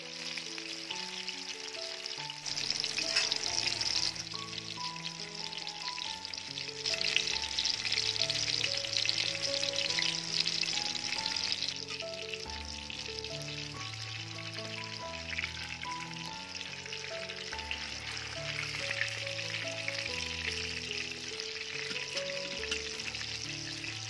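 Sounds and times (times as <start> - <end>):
soft instrumental music: 0.0 - 24.0
tofu sizzling in hot oil: 0.0 - 24.0.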